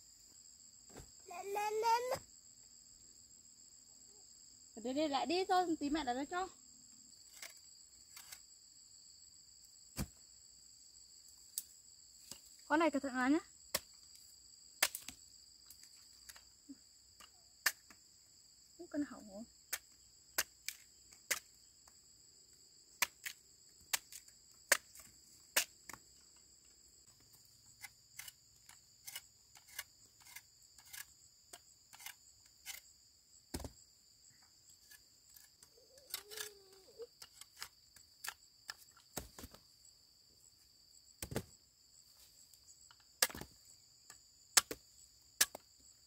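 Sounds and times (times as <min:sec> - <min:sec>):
insects chirring: 0:00.0 - 0:46.0.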